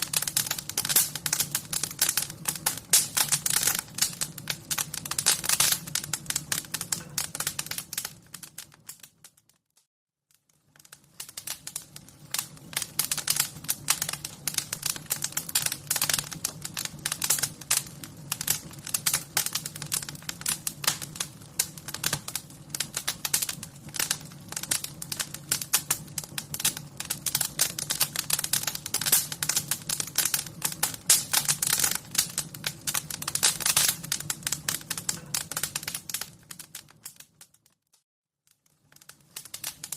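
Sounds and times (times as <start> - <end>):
wood fire crackling: 0.0 - 9.6, 10.3 - 37.8, 38.5 - 39.9.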